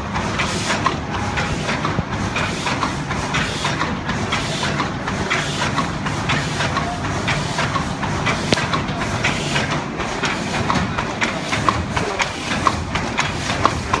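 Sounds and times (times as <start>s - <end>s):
machine clattering with clicks: 0.0s - 14.0s.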